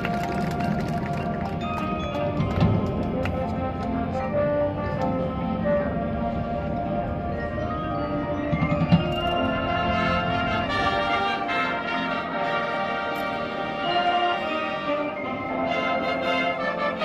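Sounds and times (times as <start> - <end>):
marching band playing chords: 0.0 - 17.0.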